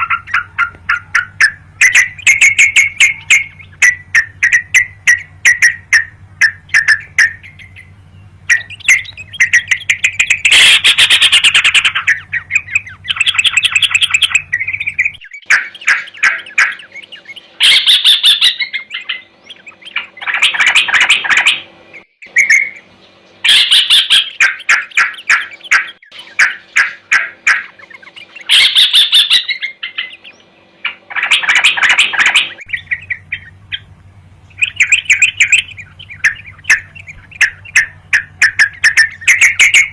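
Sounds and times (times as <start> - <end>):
bird chattering chirps: 0.0 - 39.9
faint steady hum: 0.0 - 39.9.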